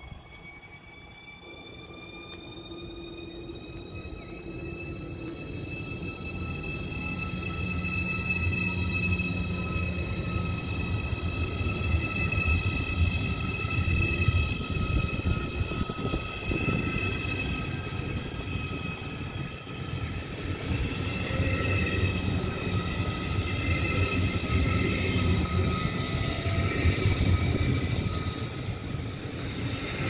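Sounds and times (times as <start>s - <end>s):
high-pitched train whine: 0.0s - 30.0s.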